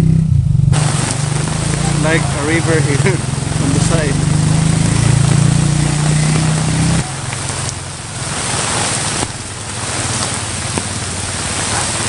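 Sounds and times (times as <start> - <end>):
faint vehicle engine hum: 0.0 - 12.0
heavy rain on pavement: 0.7 - 12.0.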